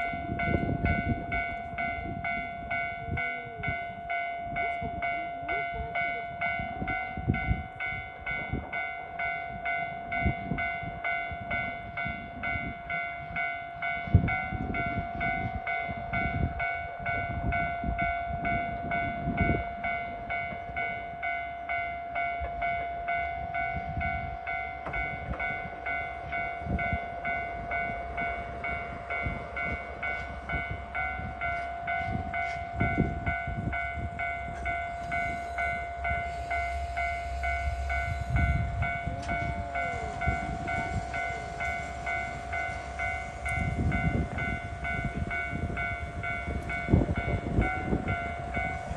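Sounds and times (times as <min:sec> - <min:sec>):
diesel locomotive rumbling: 0:00.0 - 0:48.9
level-crossing alarm ringing: 0:00.0 - 0:48.9.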